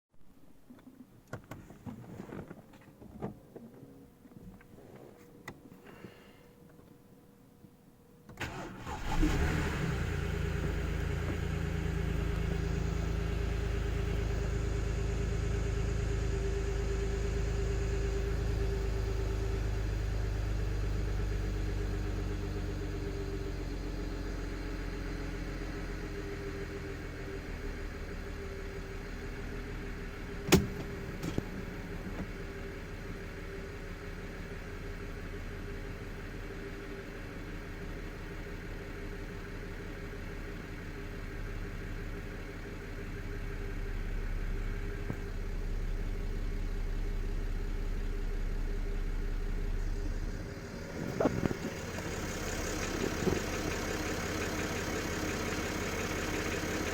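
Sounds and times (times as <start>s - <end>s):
car engine starting and idling: 8.2s - 56.9s.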